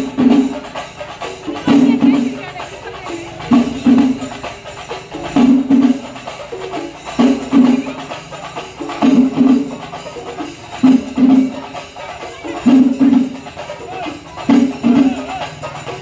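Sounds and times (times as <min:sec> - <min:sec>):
heavy drum strokes: 0:00.0 - 0:16.0.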